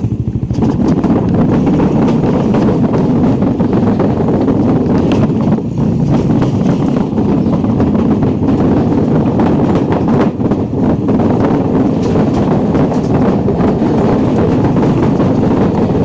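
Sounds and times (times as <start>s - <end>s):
motorcycle engine: 0.0s - 16.0s
road noise: 0.0s - 16.0s
wind buffeting microphone: 0.0s - 16.0s.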